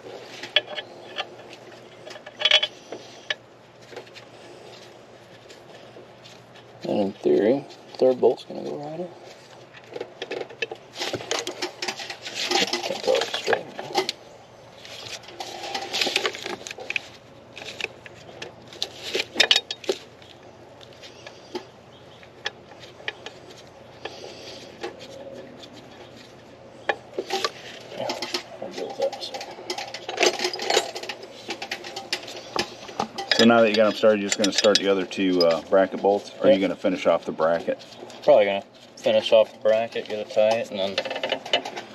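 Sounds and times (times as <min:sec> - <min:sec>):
metal tools clinking and scraping: 0:00.2 - 0:04.1, 0:05.4 - 0:14.2, 0:14.8 - 0:41.9.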